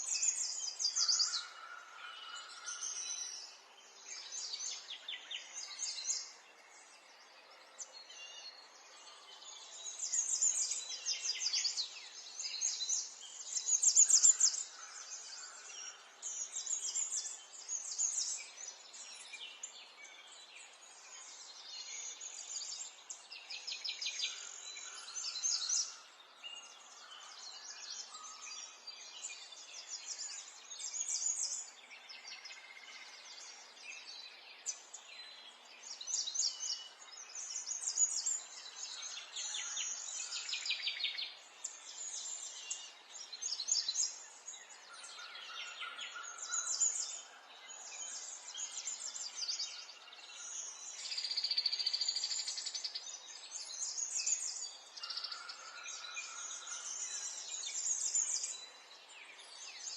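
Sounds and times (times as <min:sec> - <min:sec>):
songbirds chirping and singing: 0:00.0 - 0:59.9.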